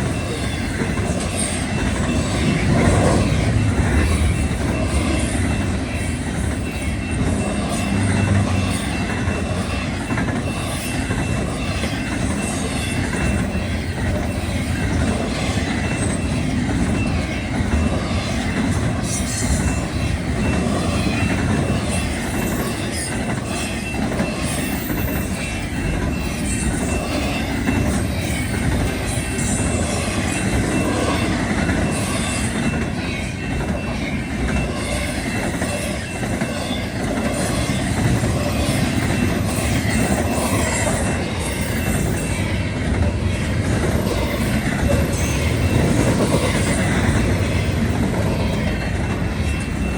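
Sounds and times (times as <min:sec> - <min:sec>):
freight train rumbling past: 0:00.0 - 0:49.9
high wheel squeal: 0:00.0 - 0:49.9.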